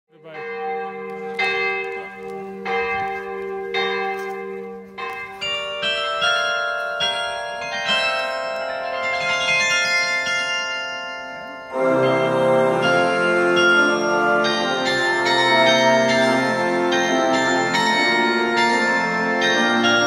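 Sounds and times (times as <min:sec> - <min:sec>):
carillon bells ringing: 0:00.1 - 0:20.0.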